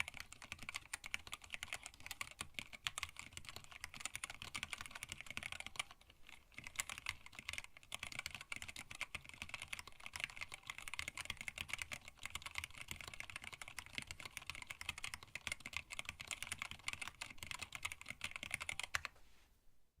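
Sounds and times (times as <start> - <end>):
fast typing on mechanical keyboard: 0.0 - 19.1.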